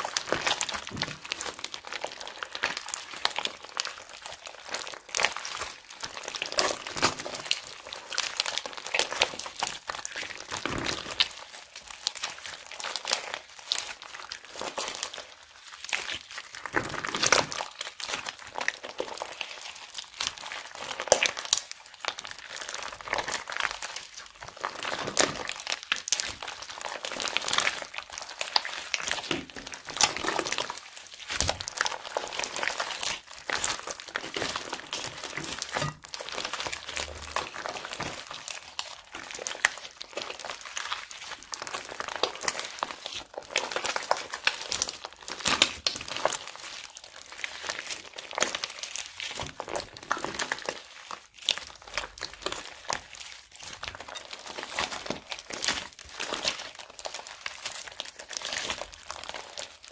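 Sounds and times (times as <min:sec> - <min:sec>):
plastic bags crinkling: 0:00.0 - 0:59.9
slime crackling and clicking: 0:00.2 - 0:59.8.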